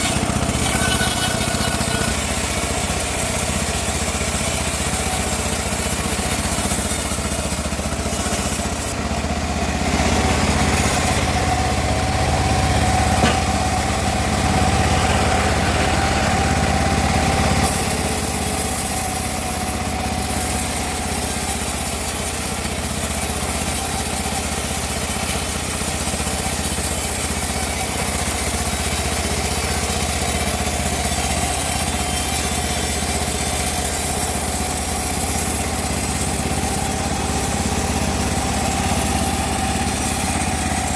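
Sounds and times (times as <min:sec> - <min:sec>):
band sawmill cutting log: 0:00.0 - 0:40.9.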